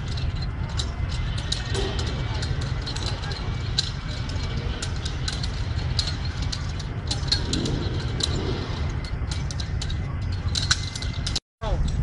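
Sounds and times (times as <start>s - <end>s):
low rumble: 0.0s - 12.0s
nunchaku chain clicking: 0.0s - 12.0s.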